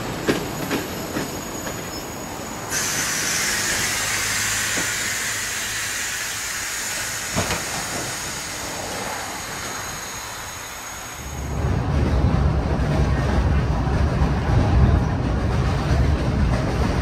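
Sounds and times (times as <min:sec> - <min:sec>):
train rolling past hissing rush: 0:00.0 - 0:17.0.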